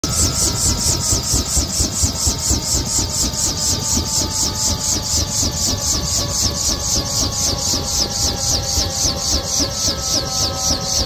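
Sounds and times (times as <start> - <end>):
helicopter rotor beating: 0.0 - 11.0
turbine whine winding down: 0.0 - 11.0.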